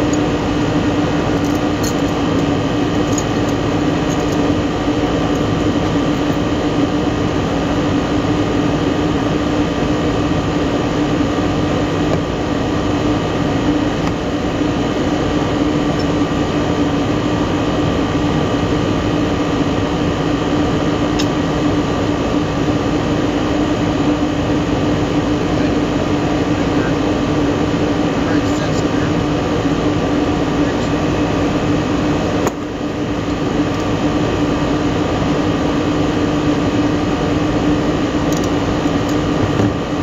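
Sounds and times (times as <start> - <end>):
hvac equipment droning: 0.0 - 40.0.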